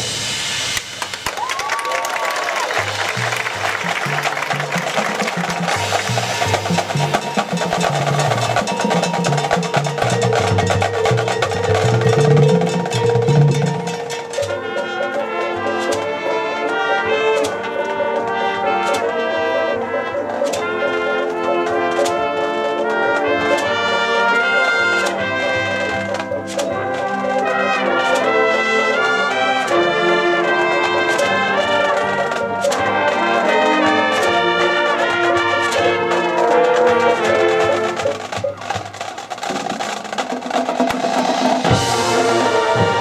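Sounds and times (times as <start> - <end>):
marching band playing: 0.2 - 43.0
held brass chords: 2.5 - 39.3, 41.3 - 43.0
sharp percussion hits: 2.7 - 43.0.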